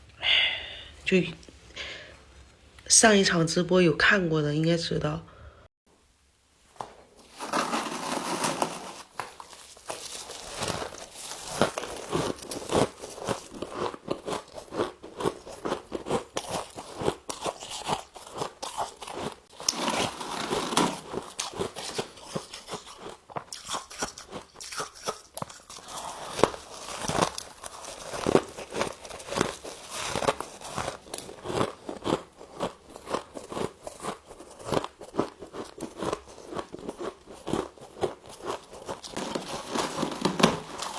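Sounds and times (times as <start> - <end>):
chewing crunchy ice: 7.2 - 40.9.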